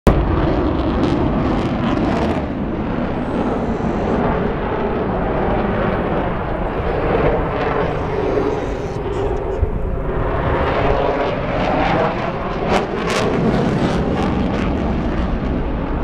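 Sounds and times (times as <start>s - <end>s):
jet engines roaring overhead: 0.1s - 16.0s.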